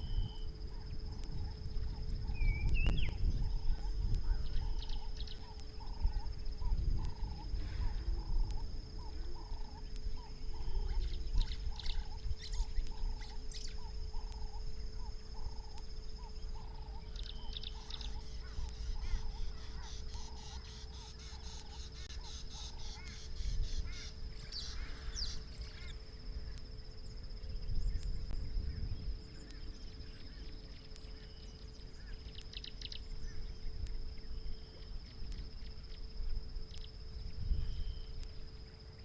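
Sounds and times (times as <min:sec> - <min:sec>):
high insect buzz: 0:00.0 - 0:39.0
low hum: 0:00.0 - 0:39.0.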